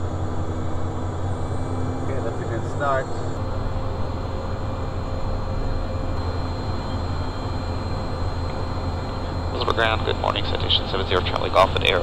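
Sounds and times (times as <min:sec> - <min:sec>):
faint thin whine: 0:00.0 - 0:12.0
jet engines idling: 0:00.0 - 0:12.0.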